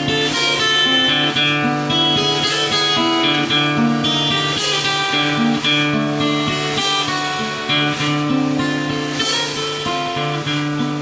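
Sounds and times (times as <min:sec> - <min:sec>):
blues guitar plucking: 0:00.0 - 0:11.0
drum kit: 0:00.0 - 0:11.0.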